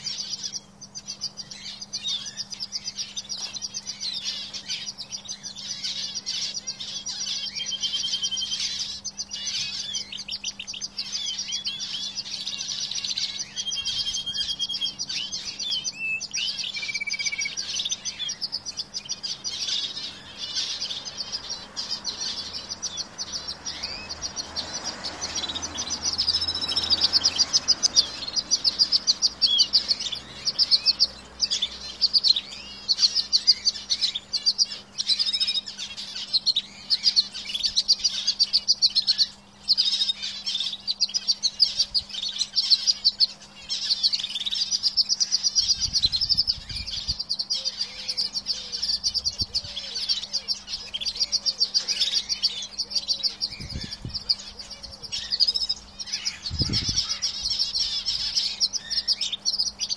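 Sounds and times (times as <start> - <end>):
canaries trilling: 0.0 - 59.9
whistled bird notes: 0.0 - 59.9.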